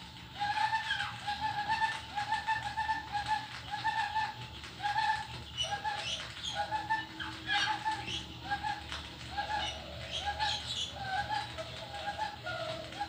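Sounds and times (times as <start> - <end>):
birds warbling calls: 0.0 - 13.0.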